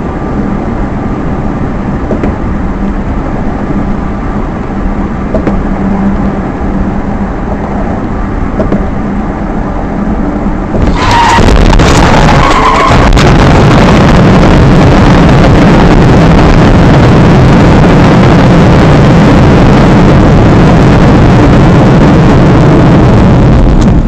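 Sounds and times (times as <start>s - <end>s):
vehicle engine tyre and wind roar: 0.0s - 24.0s.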